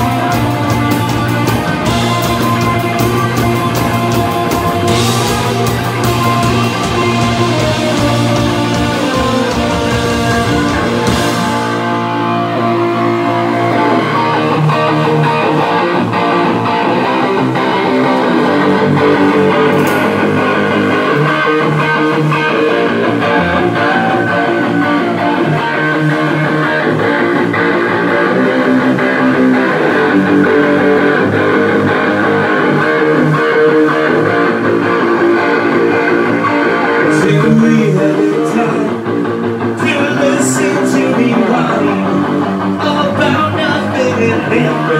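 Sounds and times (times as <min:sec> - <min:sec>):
bass guitar: 0:00.0 - 0:44.9
electric guitar: 0:00.0 - 0:44.9
live rock band playing: 0:00.0 - 0:44.9.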